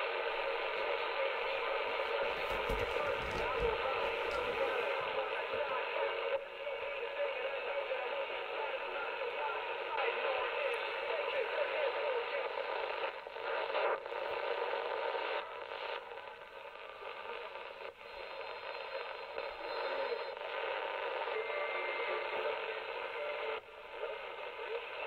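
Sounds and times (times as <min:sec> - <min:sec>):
radio static hiss: 0:00.0 - 0:25.0
weak radio stations: 0:00.0 - 0:25.0.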